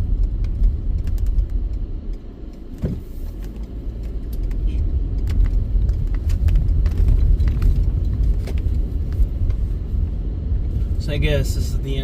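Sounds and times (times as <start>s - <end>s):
car driving rumble inside cabin: 0.0s - 12.0s
light clicks and rattles: 0.1s - 10.0s.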